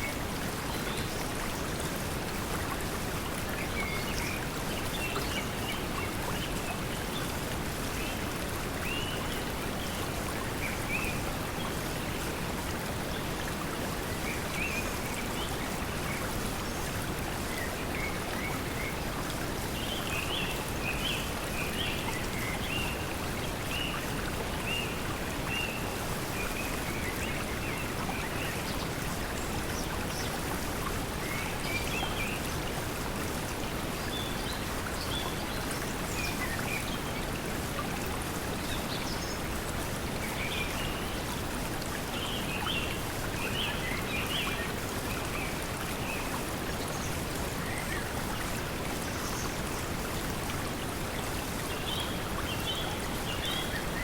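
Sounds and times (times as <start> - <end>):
flowing water: 0.0 - 54.0.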